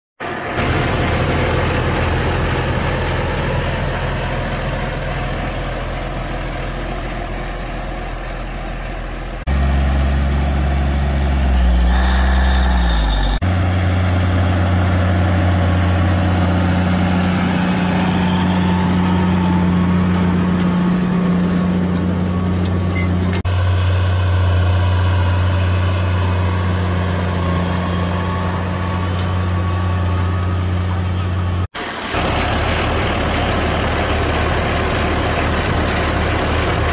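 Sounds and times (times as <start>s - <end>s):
tractor diesel engine humming: 0.2s - 36.9s.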